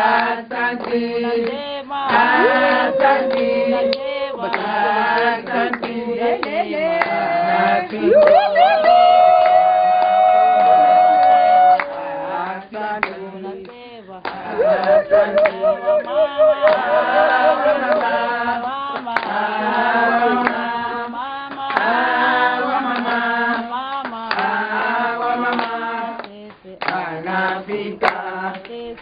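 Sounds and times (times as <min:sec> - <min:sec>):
women singing unaccompanied: 0:00.0 - 0:29.0.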